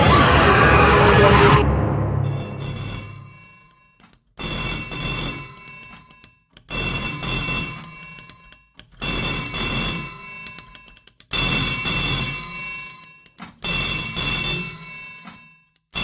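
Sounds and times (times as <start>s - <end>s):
telephone bell ringing: 2.2s - 16.0s.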